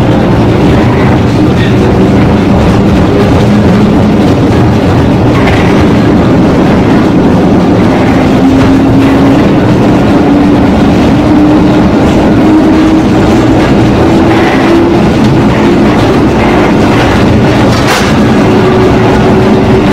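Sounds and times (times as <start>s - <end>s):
traction drive whine rising: 0.0s - 19.9s
train motor running noise: 0.0s - 19.9s.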